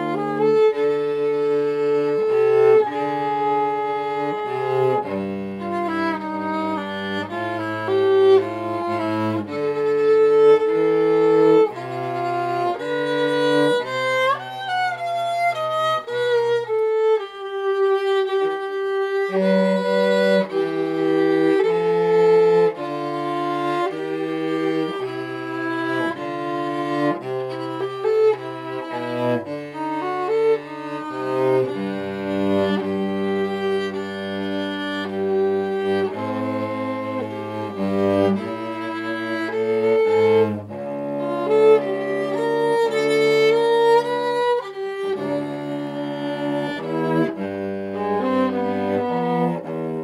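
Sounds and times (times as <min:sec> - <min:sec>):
bowed cello bass notes: 0:00.0 - 0:50.0
violin melody: 0:00.0 - 0:50.0.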